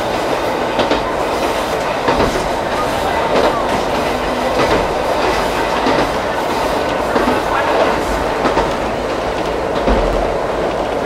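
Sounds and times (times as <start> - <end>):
train wheels rumbling: 0.0 - 11.0
wheels clicking on track: 0.0 - 11.0.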